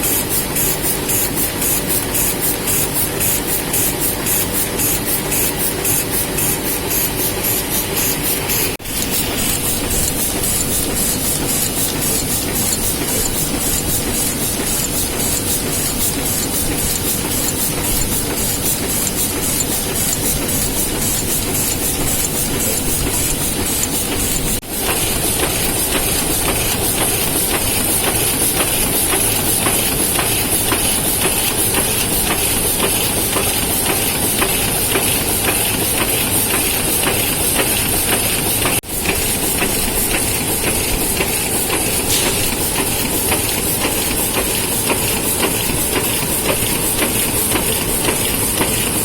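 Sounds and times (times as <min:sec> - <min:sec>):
offset press running: 0:00.1 - 0:49.0.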